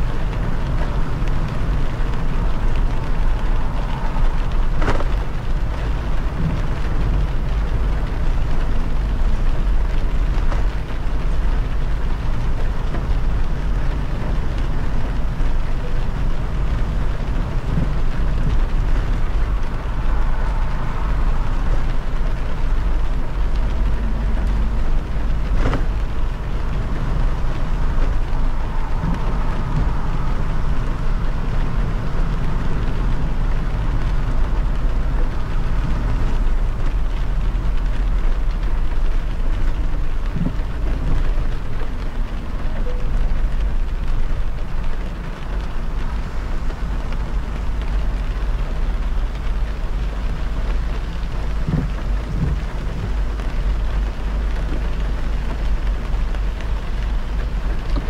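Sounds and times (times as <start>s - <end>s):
rain hissing: 0.0s - 58.0s
tyre and road noise: 0.0s - 58.0s.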